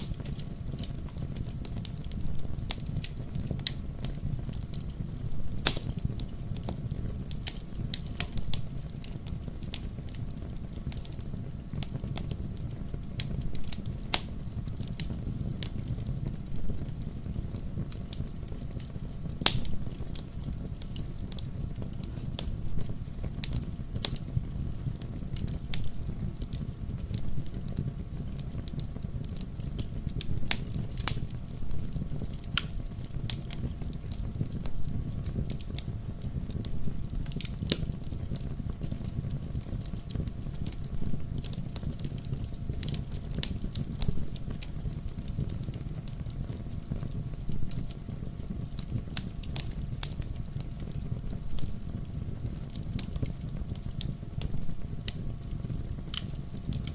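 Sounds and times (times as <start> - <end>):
wood bonfire crackling: 0.0 - 56.9.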